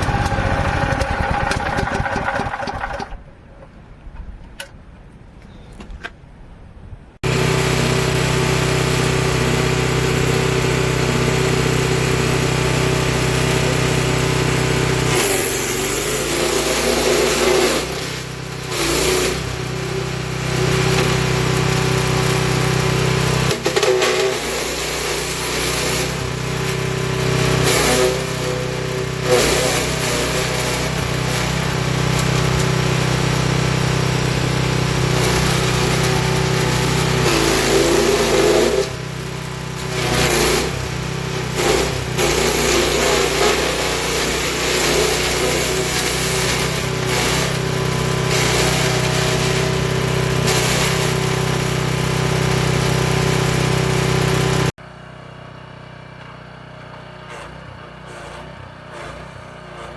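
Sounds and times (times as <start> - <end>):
wood chipper engine running: 0.0 - 3.2, 7.2 - 59.9.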